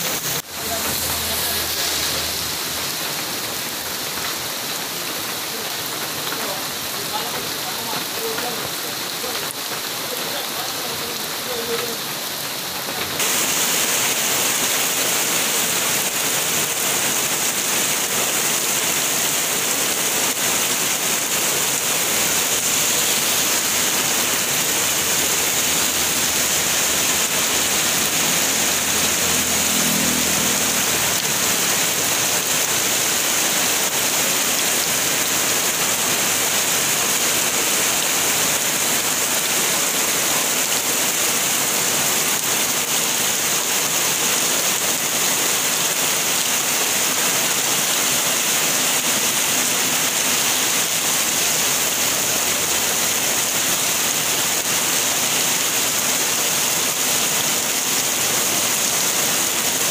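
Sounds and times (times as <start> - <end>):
rain falling on a road: 0.0 - 59.9
rain on a wooden board: 0.0 - 59.9.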